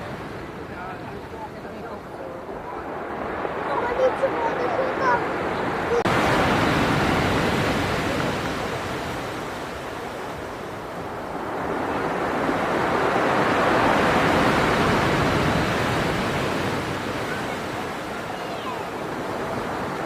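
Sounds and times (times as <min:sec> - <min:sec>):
storm surf waves rushing: 0:00.0 - 0:20.0.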